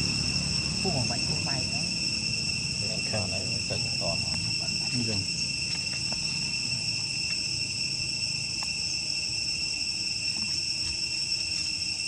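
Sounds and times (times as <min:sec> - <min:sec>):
low background rumble: 0:00.0 - 0:11.4
insects shrilling: 0:00.0 - 0:12.0.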